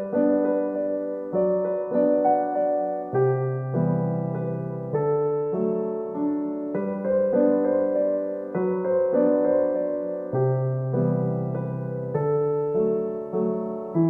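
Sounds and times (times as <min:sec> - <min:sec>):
gentle slow piano piece: 0:00.0 - 0:14.0.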